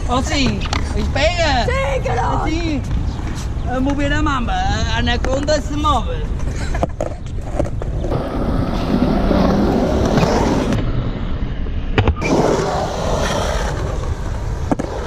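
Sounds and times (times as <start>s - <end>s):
skateboard wheels rolling on concrete: 0.0s - 11.4s, 12.0s - 15.0s.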